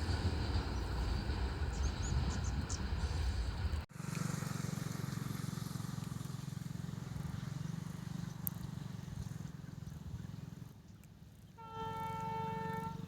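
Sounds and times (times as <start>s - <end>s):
diesel locomotive engine running: 0.0s - 10.8s.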